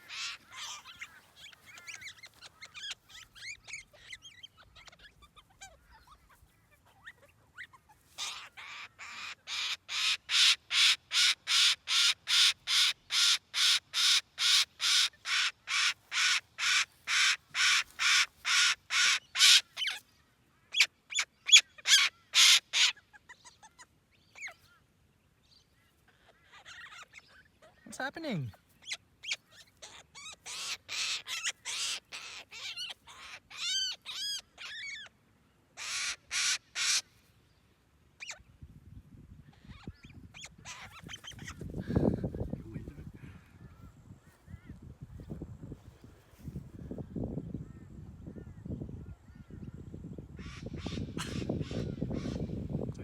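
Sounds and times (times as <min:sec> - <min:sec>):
faint bird chatter: 0:00.0 - 0:38.6, 0:39.4 - 0:45.4, 0:46.3 - 0:53.0.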